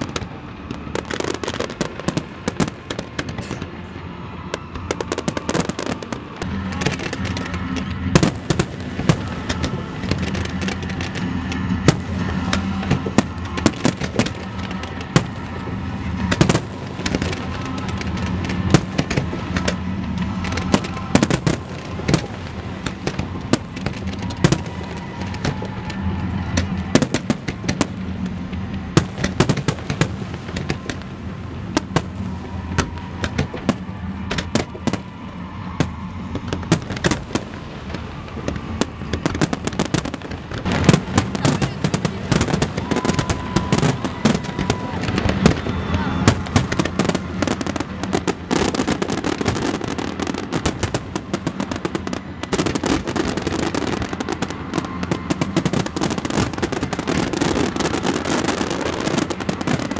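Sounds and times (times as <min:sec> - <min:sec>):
fireworks bursting with bangs and crackles: 0:00.0 - 0:59.9.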